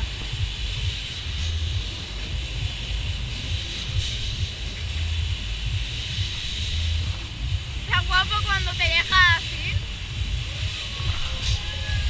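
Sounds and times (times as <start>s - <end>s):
fluttering low rumble: 0.0s - 12.0s
steady hiss: 0.0s - 12.0s.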